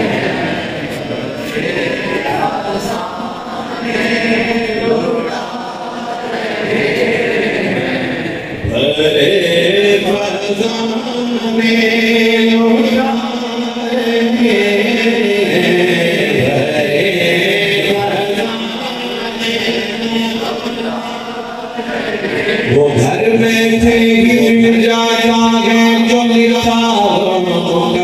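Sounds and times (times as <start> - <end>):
man chanting into microphone: 0.0 - 28.0.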